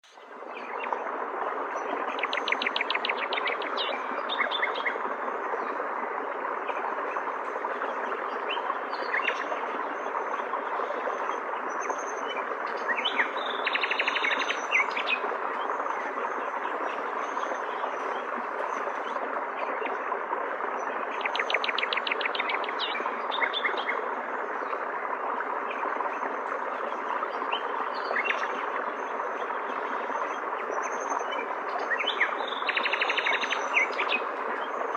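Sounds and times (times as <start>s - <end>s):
stream water flowing: 0.0s - 34.9s
birds singing: 1.7s - 5.8s, 6.6s - 20.1s, 20.7s - 24.8s, 25.7s - 34.9s.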